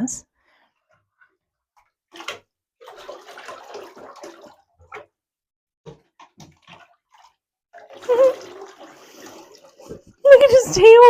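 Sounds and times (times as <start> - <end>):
water splashing in bathtub: 0.0 - 11.0.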